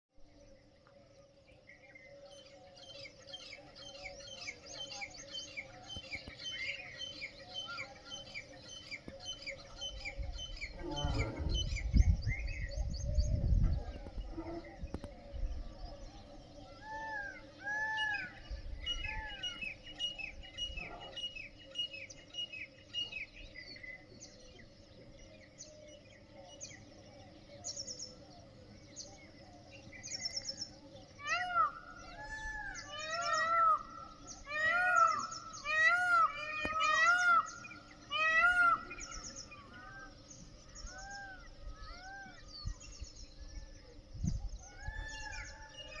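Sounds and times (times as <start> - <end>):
birds singing in dawn chorus: 0.2 - 46.0.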